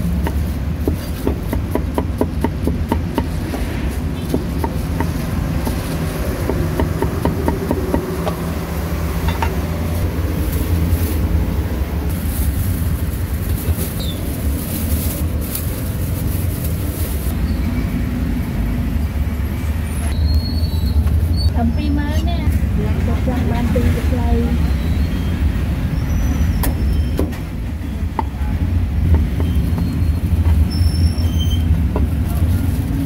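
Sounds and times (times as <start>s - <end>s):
low rumble of street traffic: 0.0s - 33.0s.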